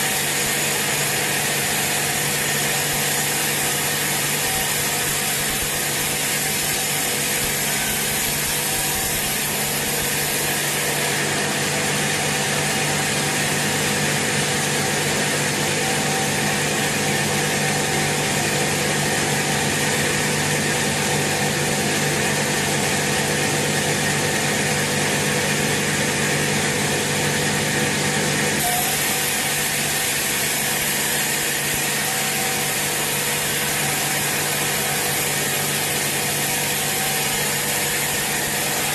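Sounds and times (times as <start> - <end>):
sawmill machinery hum: 0.0 - 38.9.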